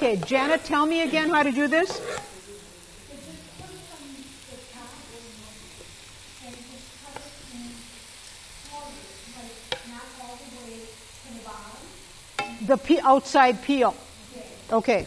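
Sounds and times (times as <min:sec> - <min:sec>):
faint background chatter: 0:00.0 - 0:12.7
steady hiss: 0:00.0 - 0:15.0.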